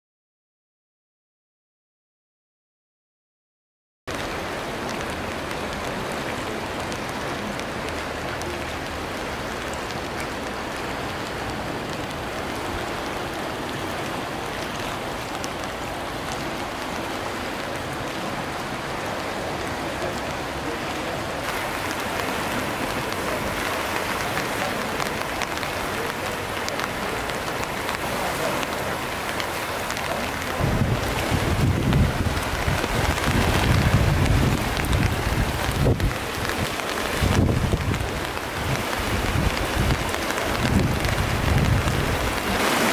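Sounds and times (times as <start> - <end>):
flooded river rushing: 4.1 - 42.9.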